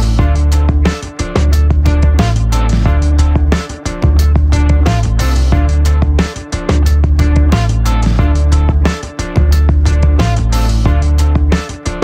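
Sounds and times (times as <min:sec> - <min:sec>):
music with heavy bass beat: 0:00.0 - 0:12.0.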